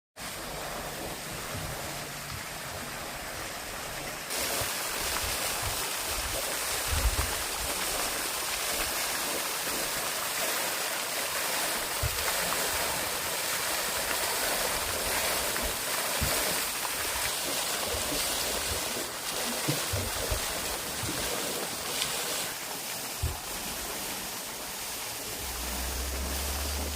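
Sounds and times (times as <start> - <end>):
flowing water rushing: 0.2 - 26.9.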